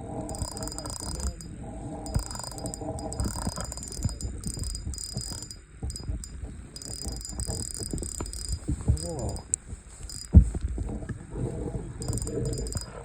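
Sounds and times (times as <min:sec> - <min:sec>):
fishing reel clicking and rattling: 0:00.2 - 0:10.4, 0:12.0 - 0:13.0
handling noise: 0:00.3 - 0:11.3, 0:12.0 - 0:13.0.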